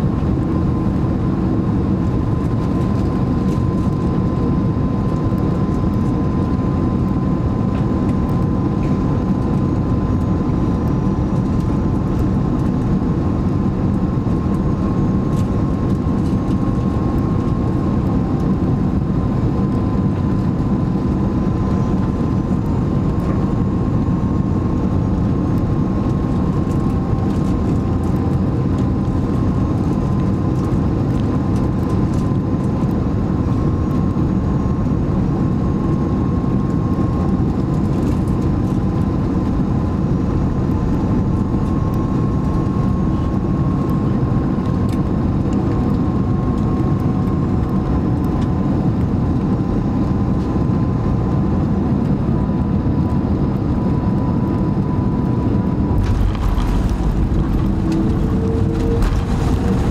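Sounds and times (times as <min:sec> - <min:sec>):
aircraft cabin engine noise: 0:00.0 - 0:59.9.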